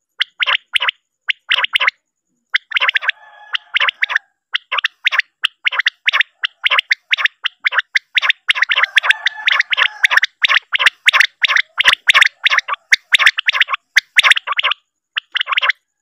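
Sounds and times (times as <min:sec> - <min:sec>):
quail calling sharp notes: 0:00.0 - 0:15.9.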